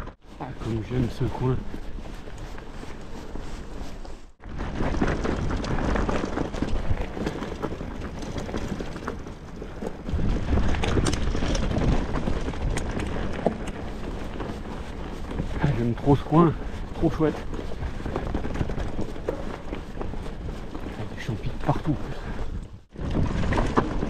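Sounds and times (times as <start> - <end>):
bike rattling over bumps: 0.0 - 24.0
bike tyres rolling on dirt: 0.0 - 24.0.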